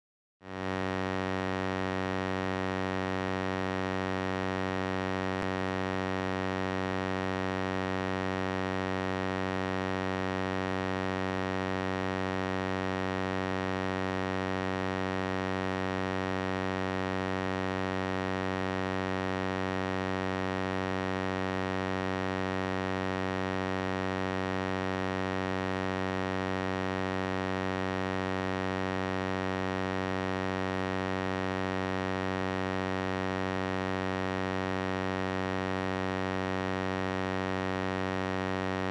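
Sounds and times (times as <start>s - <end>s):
low electronic buzz: 0.5s - 38.9s.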